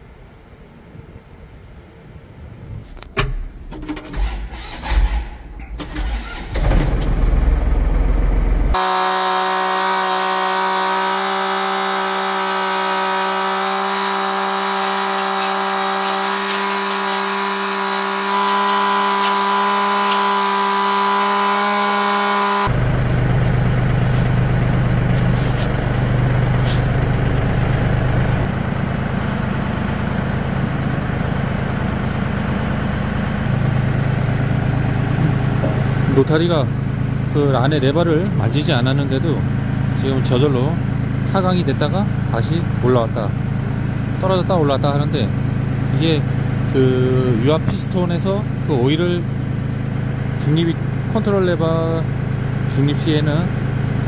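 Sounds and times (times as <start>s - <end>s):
tractor diesel engine running: 3.2s - 54.0s.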